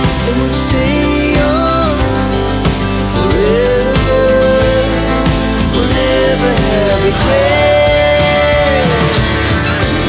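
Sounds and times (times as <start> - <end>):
pop song: 0.0 - 10.0.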